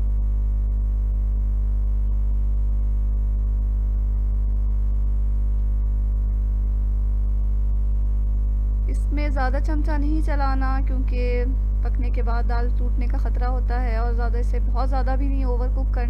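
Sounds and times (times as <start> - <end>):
deep electrical hum: 0.0 - 16.0.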